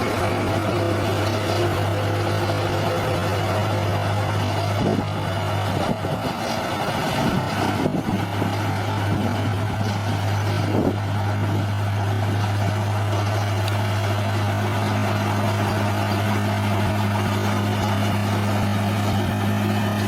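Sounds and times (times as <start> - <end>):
bulldozer diesel engine drone: 0.0 - 20.0.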